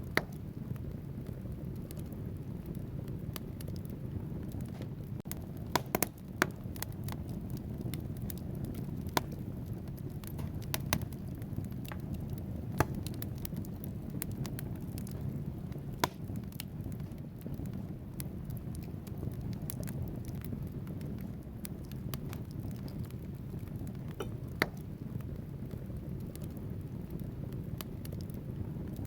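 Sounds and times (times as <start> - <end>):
logs crackling and popping: 0.0 - 29.0
low rush of flames: 0.0 - 29.0.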